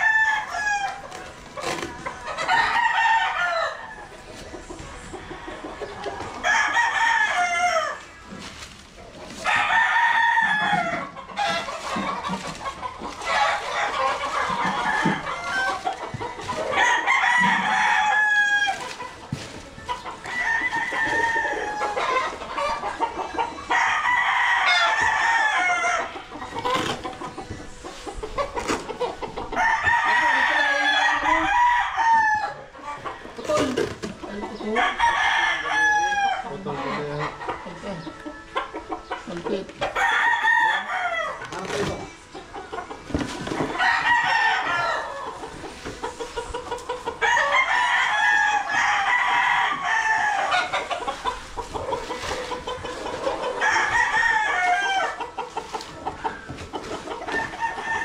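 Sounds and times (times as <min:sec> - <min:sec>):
roosters crowing: 0:00.0 - 0:58.0.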